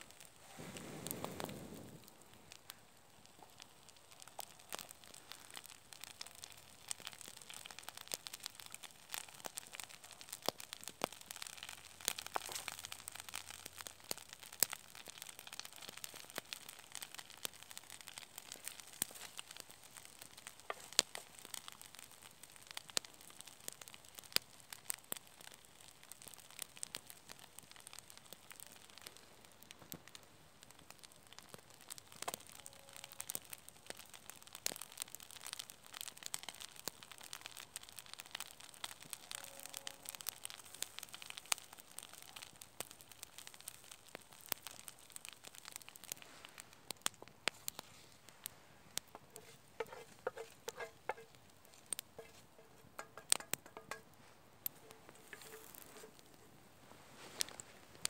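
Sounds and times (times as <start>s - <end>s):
campfire wood crackling: 0.0s - 58.0s
egg sizzling in frying pan: 0.0s - 58.0s.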